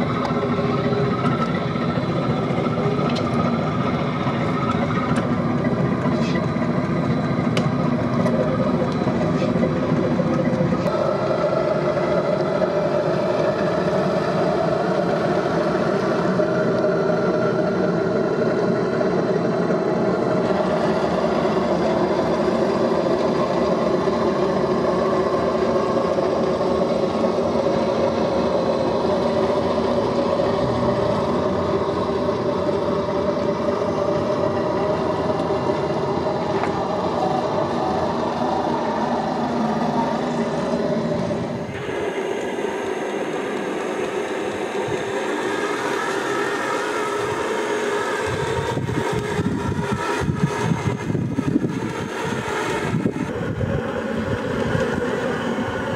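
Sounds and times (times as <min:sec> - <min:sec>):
toy truck motor humming: 0:00.0 - 0:55.9.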